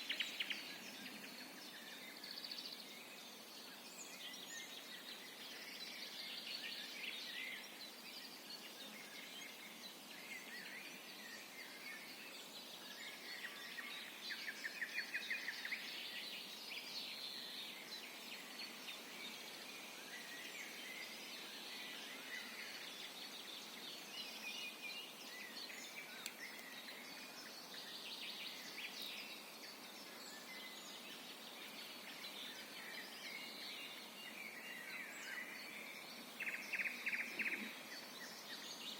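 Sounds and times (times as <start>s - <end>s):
songbirds singing: 0.0s - 38.9s
steady hiss: 0.0s - 38.9s.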